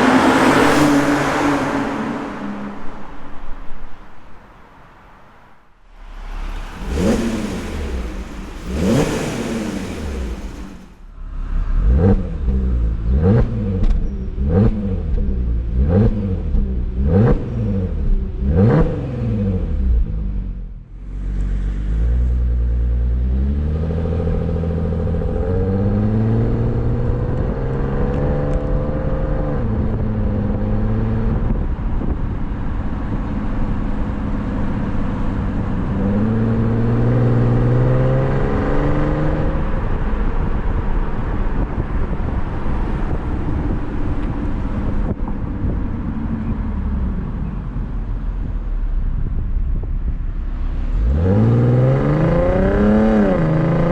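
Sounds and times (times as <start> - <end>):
car engine accelerating: 0.0 - 3.6, 5.8 - 53.9.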